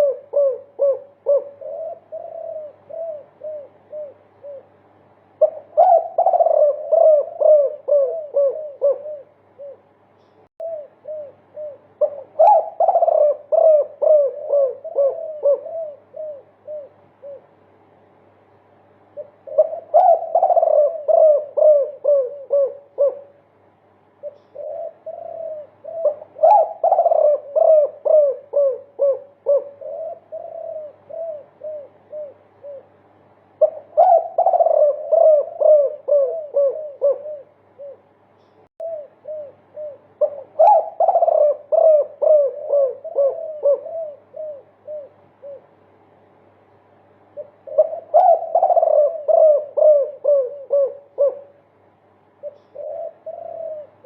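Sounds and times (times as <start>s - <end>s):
dove cooing: 0.0s - 17.7s, 19.1s - 23.5s, 24.2s - 38.2s, 38.8s - 46.2s, 47.1s - 54.0s.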